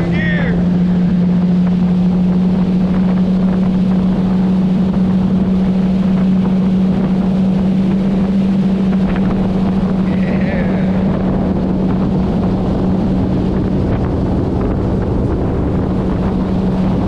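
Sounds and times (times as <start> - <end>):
outboard motor drone: 0.0 - 17.0
rushing water: 0.0 - 17.0
wind buffeting microphone: 0.0 - 17.0.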